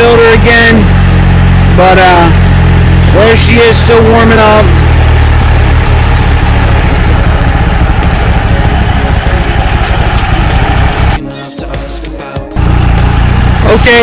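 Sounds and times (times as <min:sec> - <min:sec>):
car engine idling: 0:00.0 - 0:11.2, 0:12.6 - 0:14.0.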